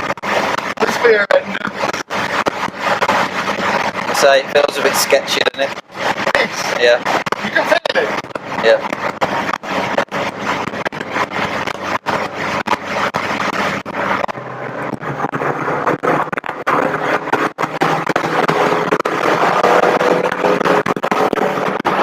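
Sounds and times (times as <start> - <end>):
car engine accelerating: 0.0 - 22.0
road noise: 0.0 - 22.0
wind noise: 0.0 - 22.0.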